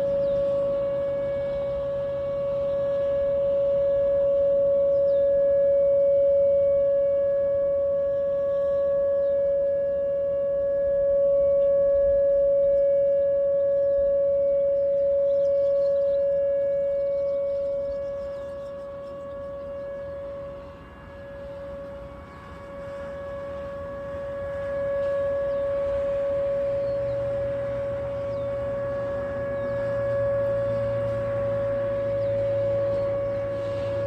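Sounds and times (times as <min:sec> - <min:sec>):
warning siren steady tone: 0:00.0 - 0:34.0.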